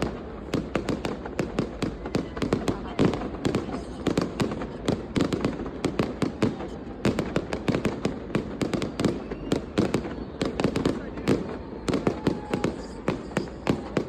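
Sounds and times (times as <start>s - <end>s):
fireworks bangs and pops: 0.0s - 14.0s.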